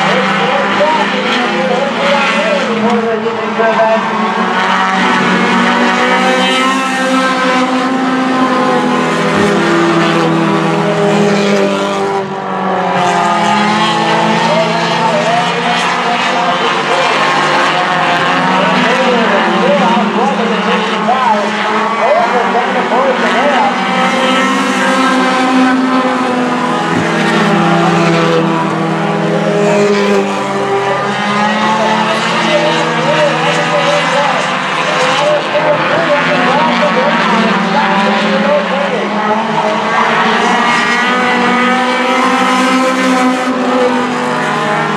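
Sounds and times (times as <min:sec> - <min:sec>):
race car engines: 0:00.0 - 0:44.9.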